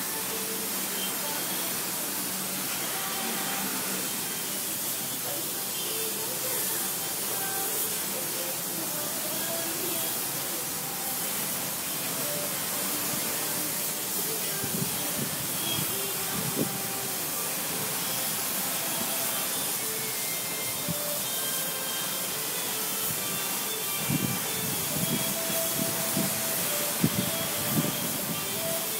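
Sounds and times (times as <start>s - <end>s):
steady hiss: 0.0s - 28.9s.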